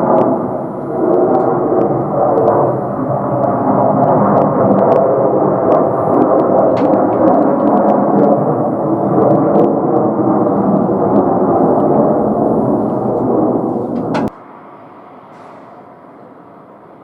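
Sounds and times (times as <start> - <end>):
background rumble: 0.0 - 16.4
jet engine noise: 0.0 - 17.0.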